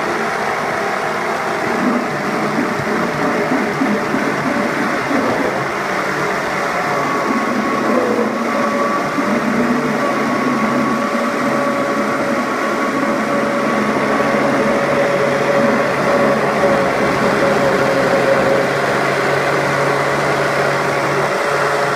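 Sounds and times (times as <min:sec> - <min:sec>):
blender motor whining: 0:00.0 - 0:21.9
thick food churning in blender: 0:00.0 - 0:21.9.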